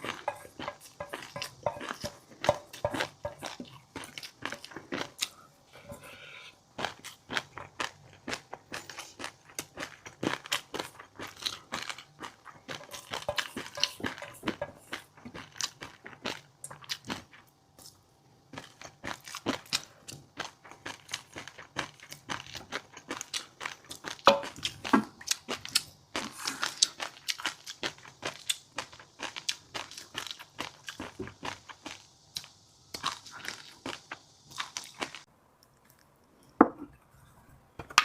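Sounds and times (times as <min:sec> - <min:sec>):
chewing crunchy food: 0:00.0 - 0:36.6.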